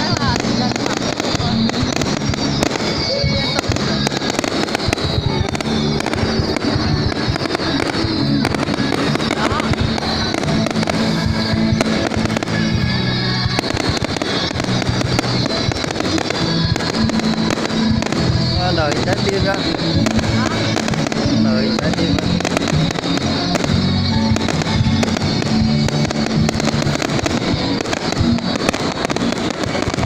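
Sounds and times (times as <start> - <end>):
fireworks bangs and crackling: 0.0 - 30.0
loud music: 0.0 - 30.0.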